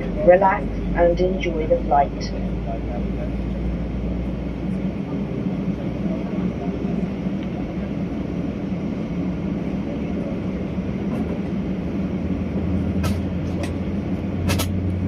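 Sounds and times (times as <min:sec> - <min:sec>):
airplane cabin hum: 0:00.0 - 0:15.0.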